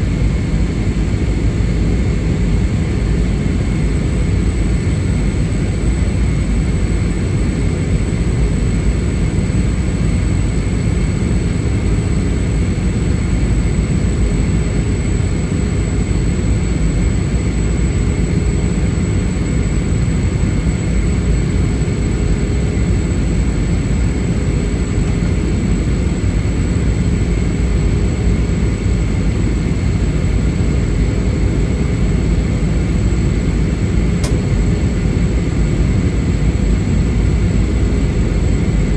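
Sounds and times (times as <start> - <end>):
aircraft cabin engine roar: 0.0 - 38.9
faint steady whines: 0.0 - 38.9.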